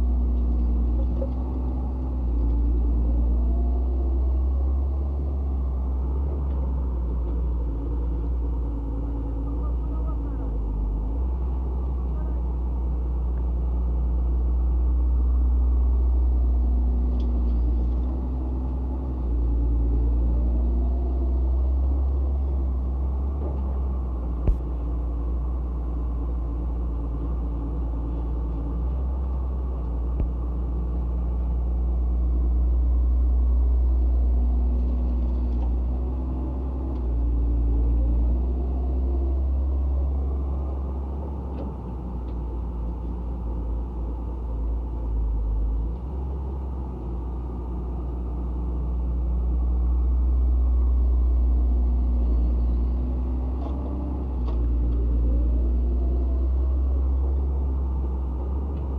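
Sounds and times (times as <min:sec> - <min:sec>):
excavator diesel engine rumbling: 0:00.0 - 0:58.9.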